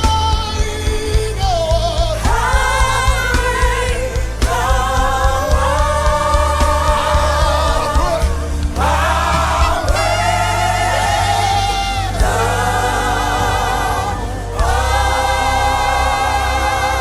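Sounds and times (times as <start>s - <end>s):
band chord: 0.0s - 17.0s
steady bass: 0.0s - 17.0s
choir singing long notes: 2.0s - 17.0s.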